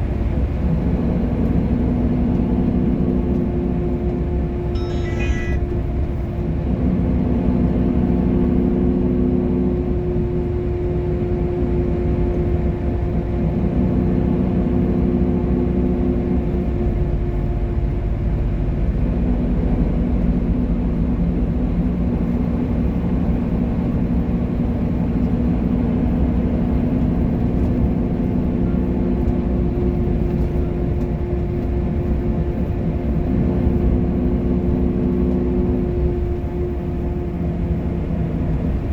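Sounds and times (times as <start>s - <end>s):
bus engine drone: 0.0s - 38.9s.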